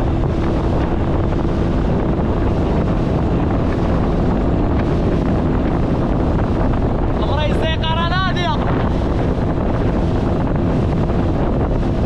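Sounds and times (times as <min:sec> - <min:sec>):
outboard motor drone: 0:00.0 - 0:12.0
wind buffeting microphone: 0:00.0 - 0:12.0.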